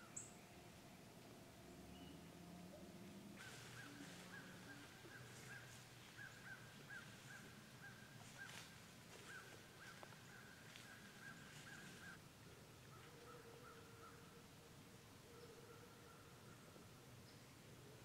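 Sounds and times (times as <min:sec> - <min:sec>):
faint distant bird calls: 0:00.0 - 0:18.0.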